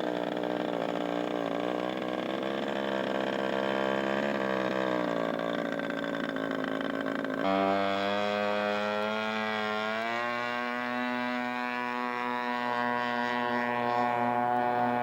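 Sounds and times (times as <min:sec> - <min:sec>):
model airplane engine buzzing: 0:00.0 - 0:15.0.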